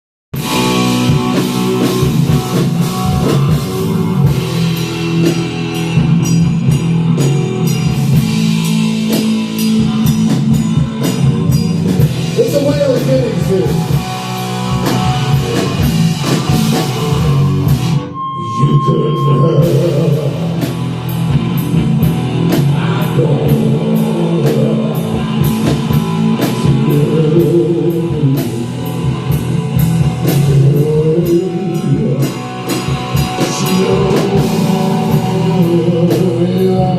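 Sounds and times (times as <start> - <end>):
rock band playing live: 0.4 - 36.9.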